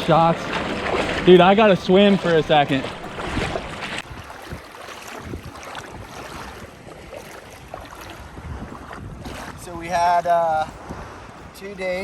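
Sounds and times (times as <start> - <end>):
faint splashes: 0.0 - 9.8
water sloshing and lapping: 0.0 - 11.5
wind buffeting microphone: 0.0 - 12.0.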